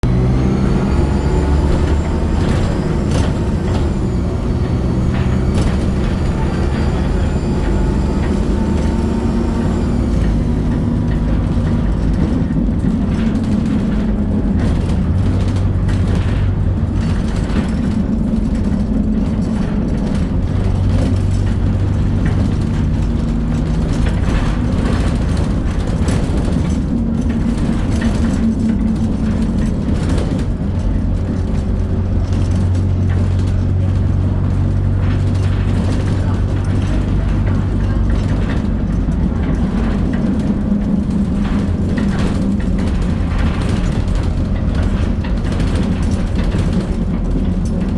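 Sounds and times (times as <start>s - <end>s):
bus diesel engine running: 0.0s - 47.9s.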